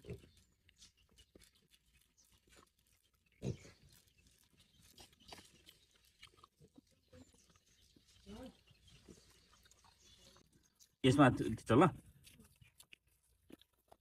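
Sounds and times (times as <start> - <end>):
people chewing watermelon: 0.0 - 14.0.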